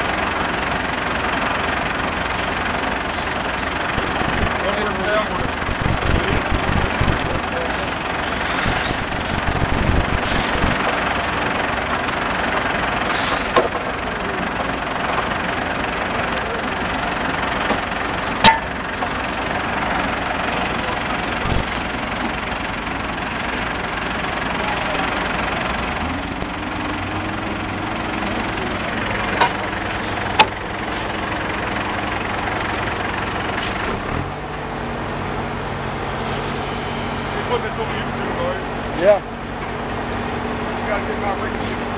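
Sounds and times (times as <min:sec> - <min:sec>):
core drilling machinery running: 0:00.0 - 0:34.0
low engine hum: 0:00.0 - 0:41.9.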